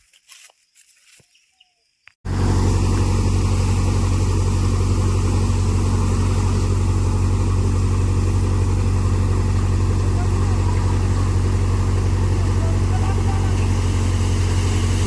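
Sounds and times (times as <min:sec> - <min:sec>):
loud engine running: 0:02.2 - 0:15.0.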